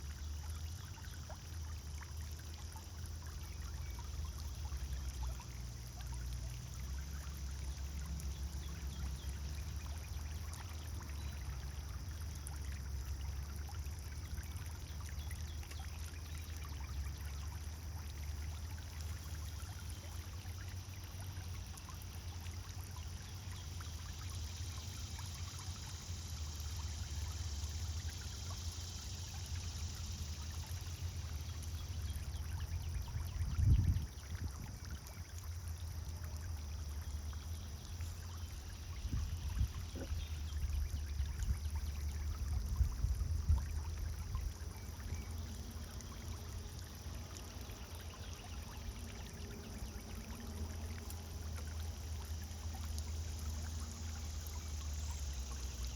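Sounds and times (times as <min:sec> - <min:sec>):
fountain water splashing: 0:00.0 - 0:55.9.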